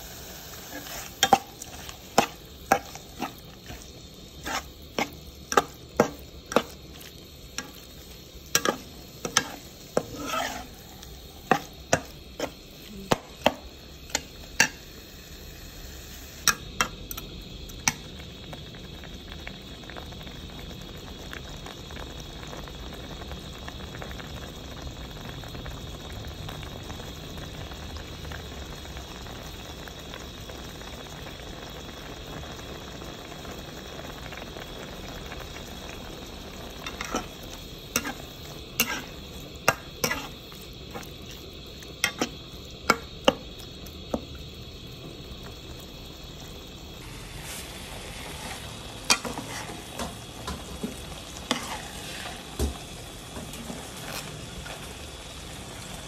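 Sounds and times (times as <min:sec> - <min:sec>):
frying sizzle: 0:00.0 - 0:56.0.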